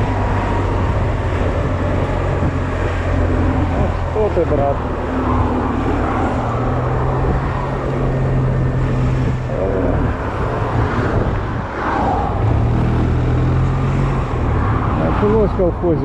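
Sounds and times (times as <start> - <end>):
wind noise: 0.0 - 16.0.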